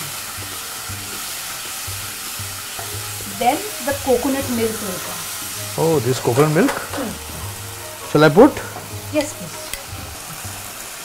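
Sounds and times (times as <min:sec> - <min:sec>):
sizzling in a pan: 0:00.0 - 0:11.0.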